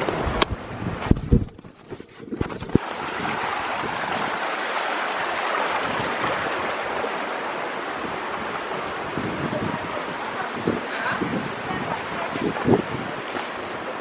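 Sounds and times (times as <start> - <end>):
stream running over stones: 1.9 - 14.0.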